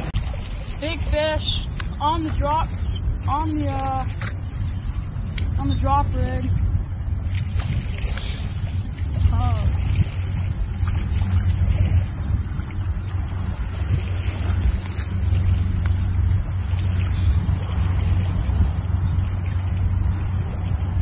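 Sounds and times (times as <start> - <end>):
insects buzzing: 0.0 - 21.0
low rumble: 0.0 - 21.0.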